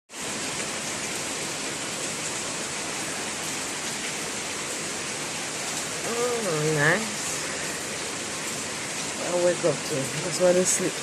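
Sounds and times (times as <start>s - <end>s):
steady rainfall: 0.1s - 11.0s.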